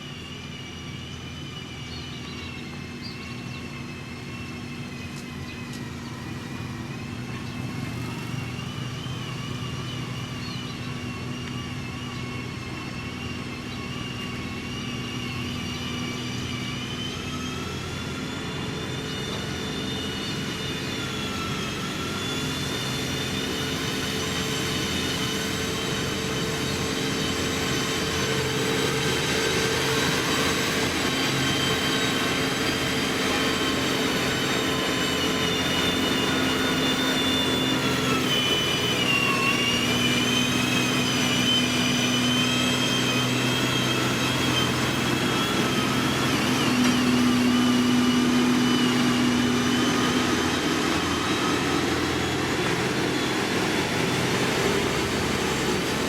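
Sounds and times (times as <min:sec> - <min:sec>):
heavy diesel engines running: 0:00.0 - 0:56.0
high-pitched whine: 0:00.0 - 0:56.0.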